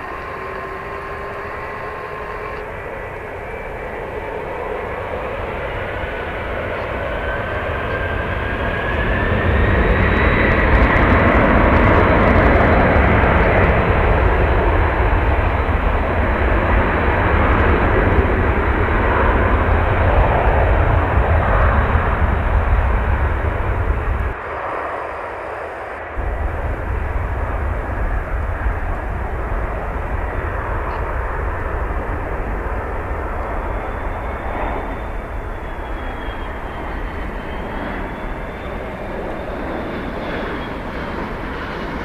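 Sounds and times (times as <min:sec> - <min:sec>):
wind buffeting microphone: 0:00.0 - 0:24.4, 0:26.2 - 0:42.0
jet engines roaring: 0:00.0 - 0:42.0.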